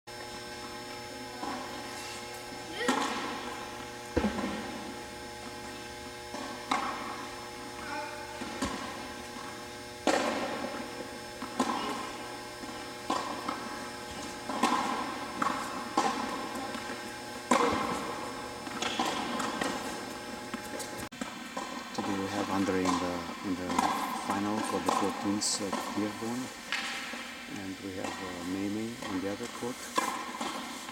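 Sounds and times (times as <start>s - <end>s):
steady hum: 0.1s - 30.9s
racket hitting tennis ball: 0.8s - 30.9s.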